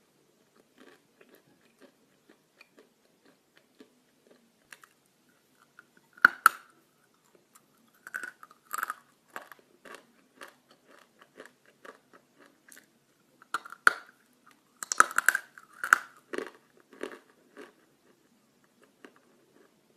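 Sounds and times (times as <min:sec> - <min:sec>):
dry clay being chewed: 0:00.5 - 0:19.8.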